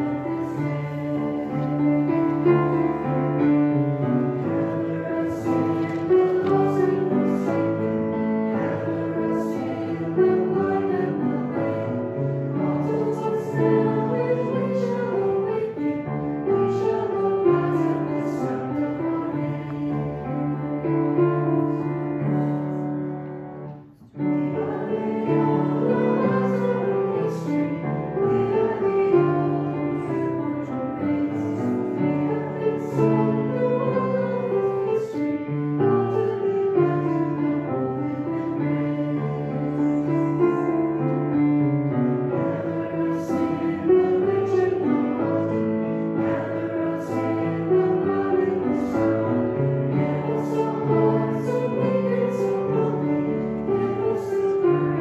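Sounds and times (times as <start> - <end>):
hymn singing: 0.0 - 55.0
piano accompaniment: 0.0 - 55.0.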